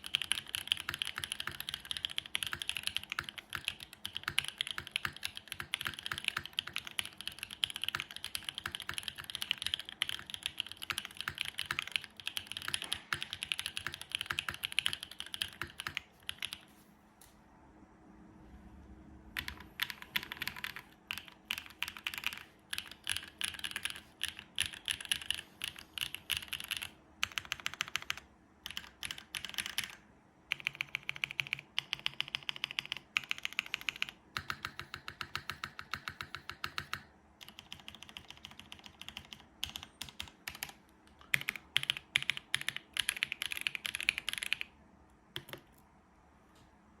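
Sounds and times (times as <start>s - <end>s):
mechanical keyboard typing: 0.0s - 16.6s, 19.4s - 44.7s, 45.3s - 45.8s.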